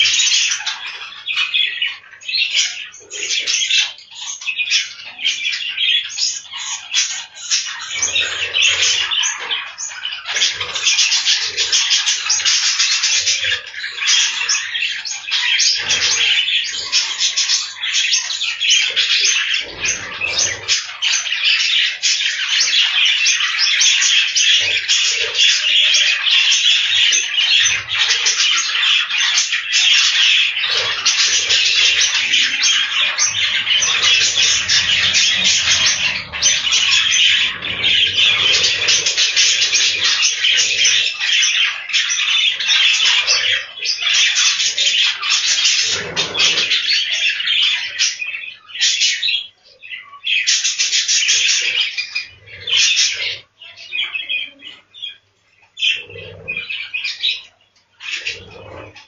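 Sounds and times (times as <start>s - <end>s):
budgerigars chattering and squawking: 0.0s - 59.0s.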